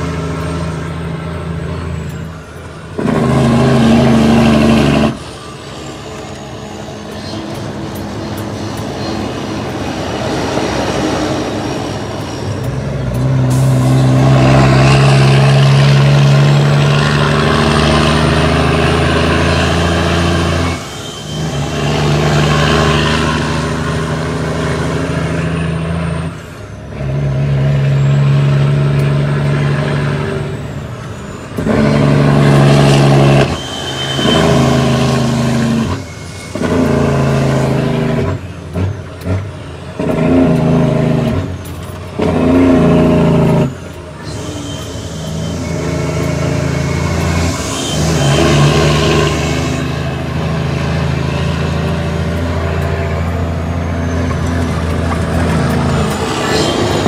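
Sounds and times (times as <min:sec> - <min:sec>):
truck diesel engine under load: 0:00.0 - 0:57.0.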